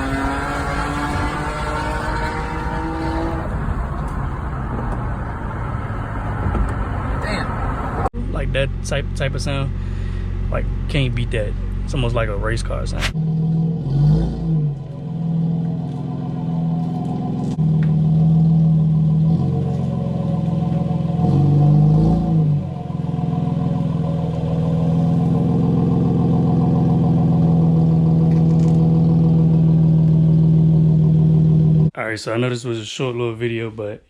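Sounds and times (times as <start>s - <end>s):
car engine and exhaust droning: 0.0s - 31.9s.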